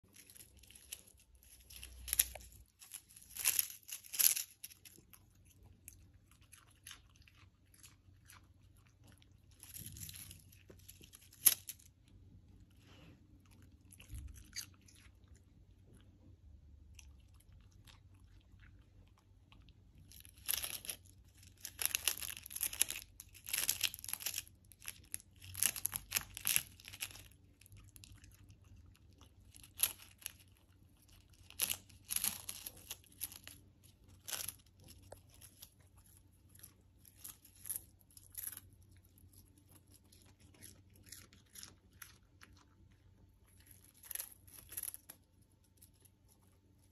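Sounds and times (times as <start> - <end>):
dog crunching crispy food: 0.0 - 12.3, 13.3 - 46.9.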